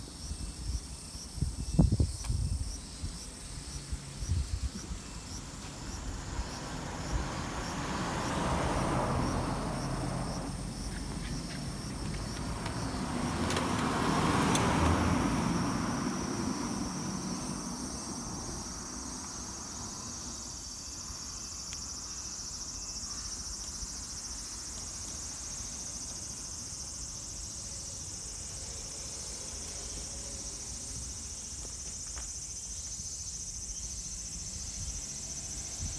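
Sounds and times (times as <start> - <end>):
insects chirping: 0.0 - 35.9
road vehicles passing: 2.9 - 35.9.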